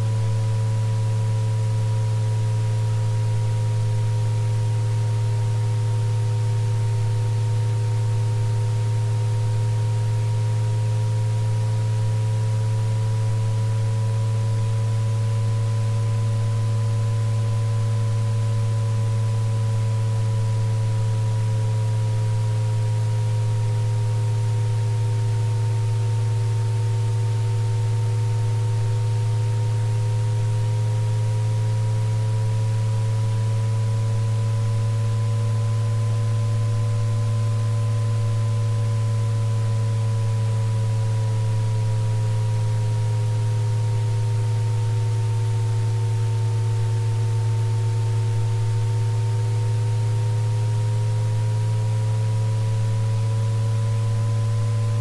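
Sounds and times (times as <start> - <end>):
loud steady low hum: 0.0 - 55.0.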